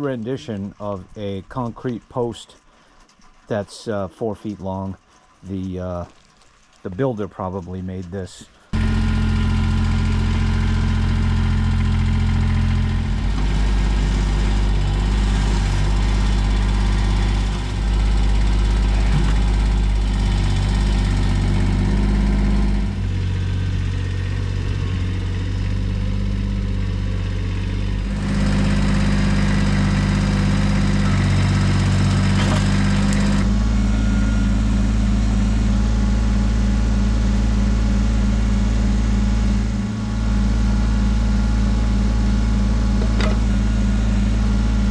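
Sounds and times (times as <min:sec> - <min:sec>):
tractor diesel engine running: 0:00.0 - 0:06.2, 0:06.8 - 0:44.9.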